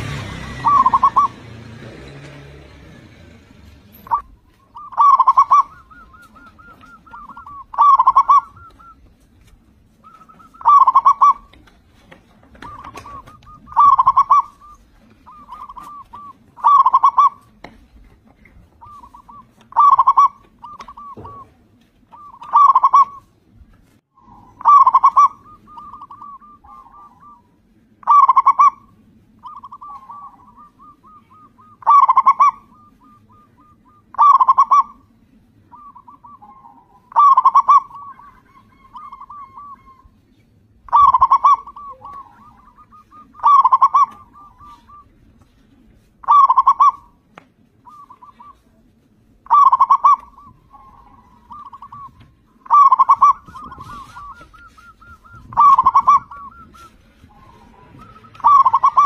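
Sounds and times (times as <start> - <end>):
dove cooing: 0.0 - 2.3, 3.1 - 17.6, 18.4 - 23.3, 24.2 - 47.2, 47.8 - 59.0.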